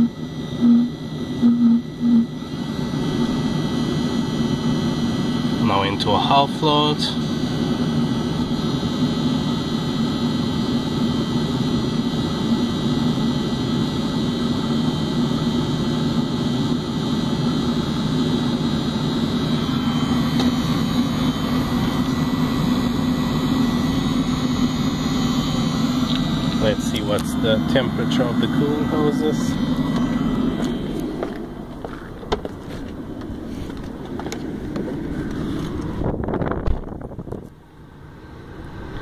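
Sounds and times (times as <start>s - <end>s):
heater fan and burner roaring: 0.0s - 39.0s.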